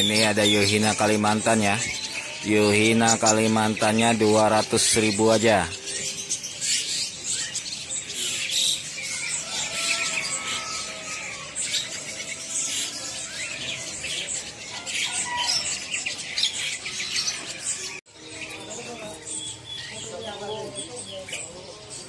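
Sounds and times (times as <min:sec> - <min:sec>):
caged birds chirping: 0:00.0 - 0:22.0.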